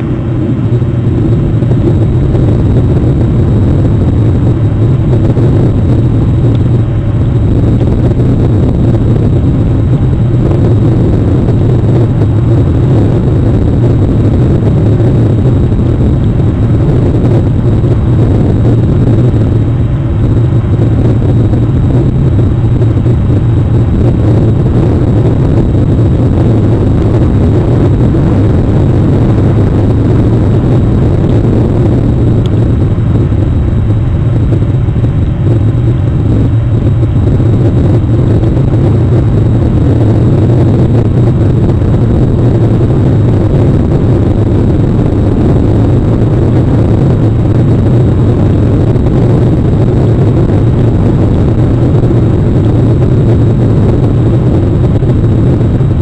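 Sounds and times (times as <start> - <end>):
low rumble: 0.0 - 56.0
wind noise: 0.0 - 56.0.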